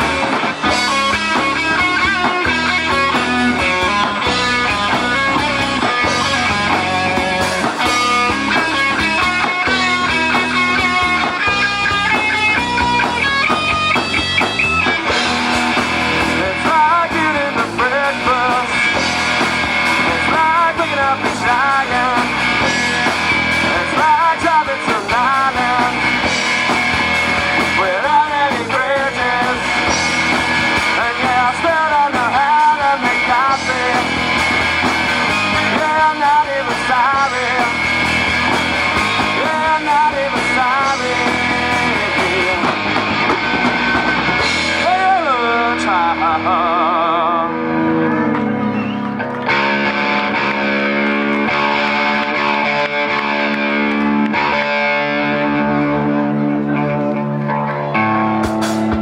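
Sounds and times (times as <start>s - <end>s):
electric guitar: 0.0s - 59.0s
live rock band playing: 0.0s - 59.0s.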